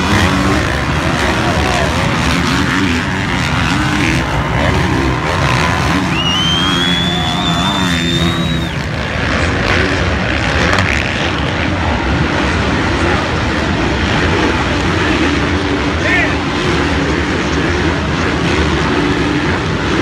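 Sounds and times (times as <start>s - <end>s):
high engine whine: 0.0s - 20.0s
motocross bike engines revving: 0.0s - 20.0s.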